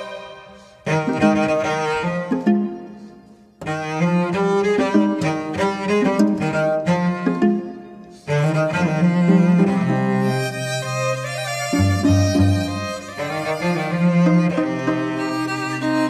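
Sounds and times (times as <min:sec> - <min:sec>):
bowed strings music: 0:00.0 - 0:16.0.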